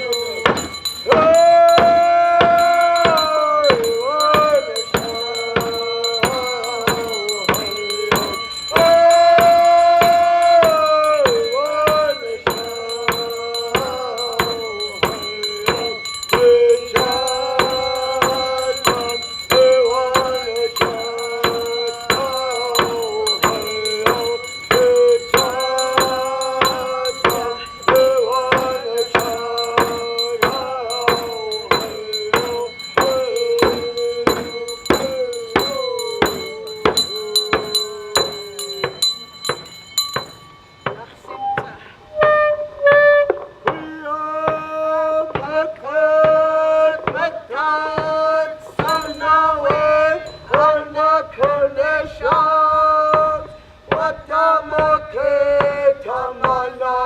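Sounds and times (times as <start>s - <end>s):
steady percussion beat: 0.0s - 42.0s, 43.6s - 51.7s
sustained singing voice: 0.0s - 57.0s.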